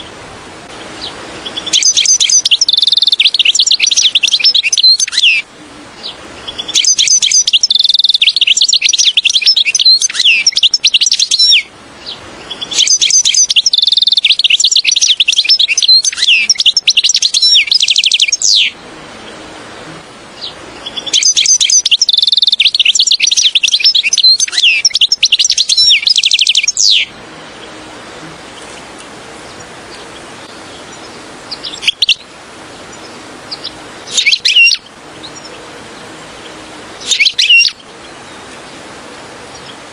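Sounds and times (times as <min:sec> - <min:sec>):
goldfinch twittering song: 0:00.8 - 0:19.4, 0:20.4 - 0:27.9, 0:28.5 - 0:39.9
brief bird calls: 0:00.8 - 0:32.3, 0:32.9 - 0:38.8.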